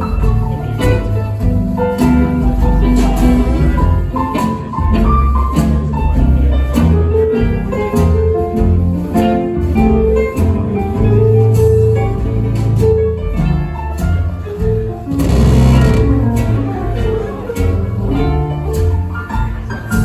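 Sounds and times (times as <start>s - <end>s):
bass: 0.0s - 20.0s
drums keeping a steady beat: 0.0s - 20.0s
guitar: 0.0s - 20.0s.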